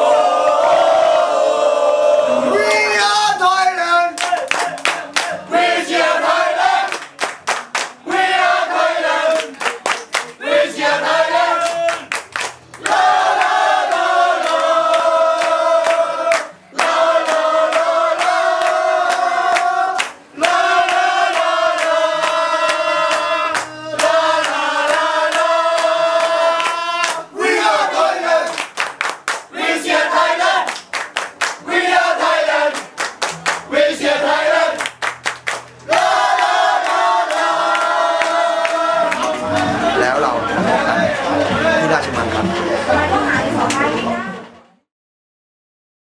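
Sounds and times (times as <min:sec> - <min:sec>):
football supporters singing: 0:00.0 - 0:07.2, 0:07.9 - 0:09.7, 0:10.3 - 0:12.1, 0:12.8 - 0:28.7, 0:29.5 - 0:30.8, 0:31.6 - 0:33.0, 0:33.6 - 0:34.9, 0:35.8 - 0:44.0
crowd chanting: 0:00.0 - 0:12.2, 0:12.8 - 0:28.7, 0:29.5 - 0:30.8, 0:31.6 - 0:33.0, 0:33.6 - 0:34.9, 0:35.8 - 0:44.5.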